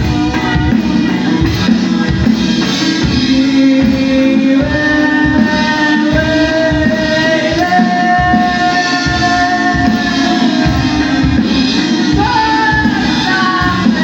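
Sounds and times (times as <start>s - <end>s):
bass guitar: 0.0s - 14.0s
drums: 0.0s - 14.0s
held melody line: 0.0s - 14.0s.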